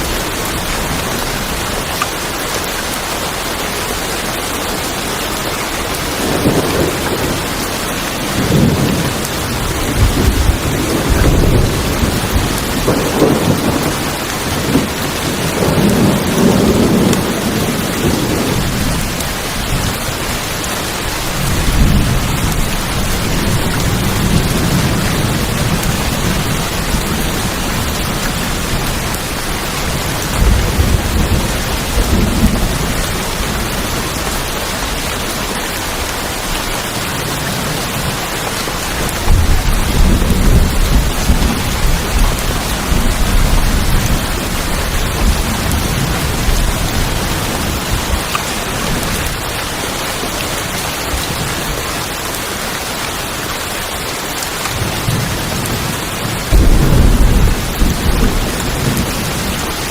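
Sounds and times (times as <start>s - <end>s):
rain on a tin roof: 0.0s - 59.9s
thunder rumbling: 6.1s - 49.8s, 54.7s - 59.9s.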